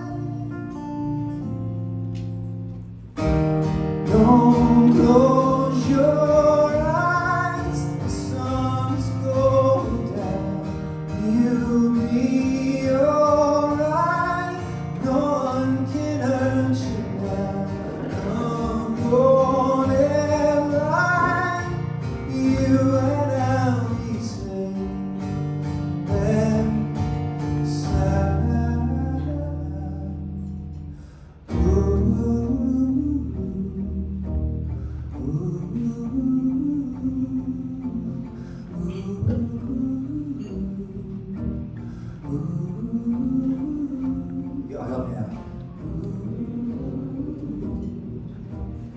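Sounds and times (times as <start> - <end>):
man singing: 0.0 - 1.6, 4.0 - 34.5, 35.1 - 48.9
strummed acoustic guitar: 0.0 - 48.9.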